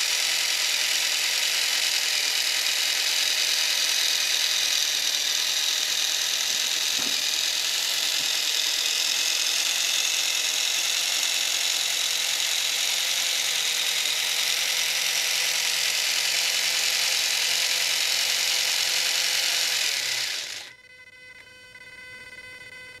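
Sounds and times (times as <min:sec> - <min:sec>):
electric motor whirring: 0:00.0 - 0:20.8.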